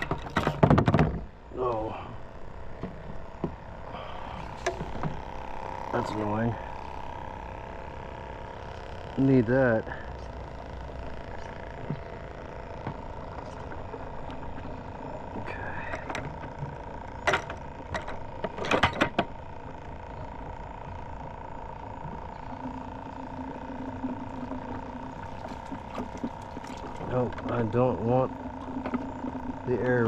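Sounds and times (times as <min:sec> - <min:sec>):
aerator pump humming: 0:00.0 - 0:30.0.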